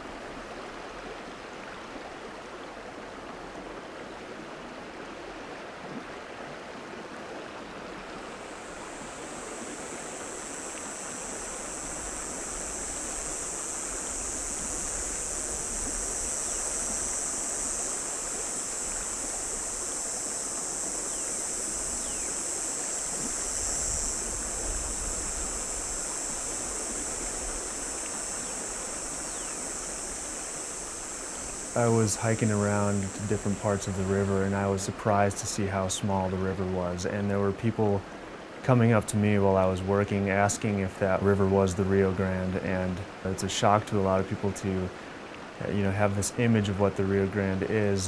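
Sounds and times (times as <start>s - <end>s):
river water over stones: 0.0s - 48.0s
steady high hiss: 0.0s - 48.0s.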